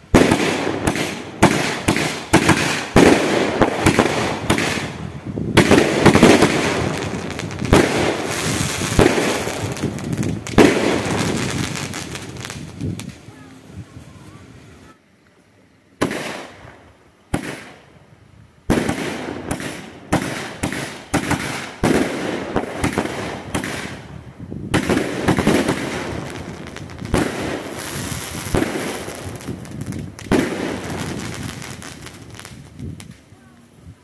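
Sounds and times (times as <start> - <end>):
firework bangs: 0.0 - 14.5, 16.0 - 17.9, 18.7 - 33.3
firework shots and bursts: 0.0 - 14.7, 16.0 - 17.9, 18.6 - 33.3
firework crackling: 0.0 - 15.0, 16.0 - 18.0, 18.6 - 34.0.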